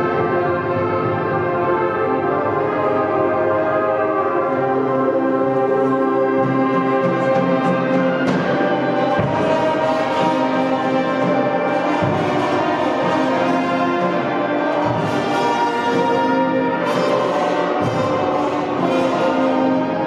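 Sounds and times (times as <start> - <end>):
brass: 0.0 - 20.0
wind ensemble playing chords: 0.0 - 20.0.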